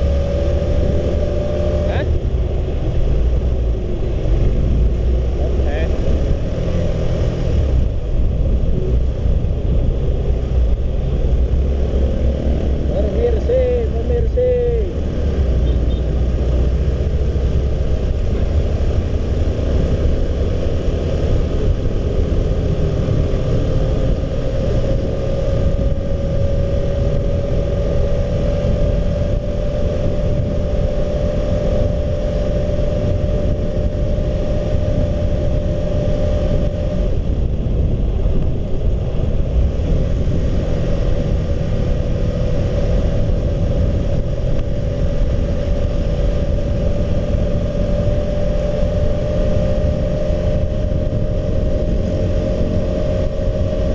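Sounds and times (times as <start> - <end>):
motorcycle engine running: 0.0 - 53.9
wind rumble on microphone: 0.0 - 53.9.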